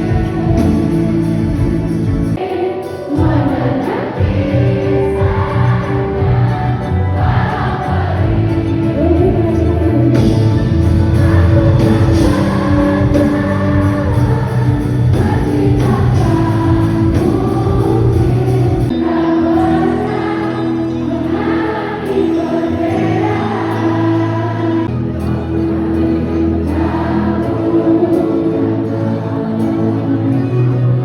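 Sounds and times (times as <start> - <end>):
song with sung vocals and beat: 0.0 - 31.0.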